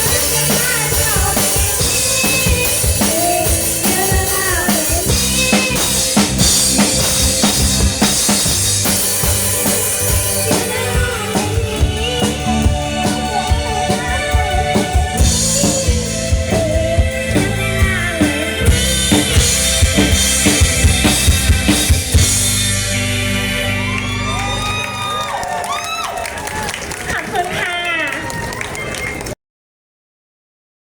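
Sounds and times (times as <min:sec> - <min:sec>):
live rock band playing: 0:00.0 - 0:25.6.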